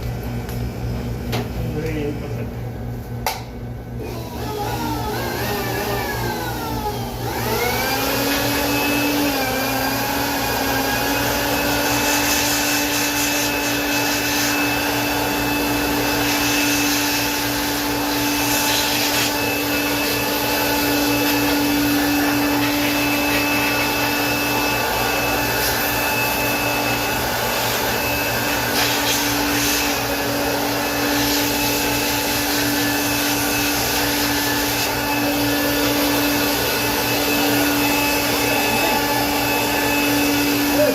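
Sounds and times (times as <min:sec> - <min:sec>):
electric air blower motor whine: 0:00.0 - 0:40.9.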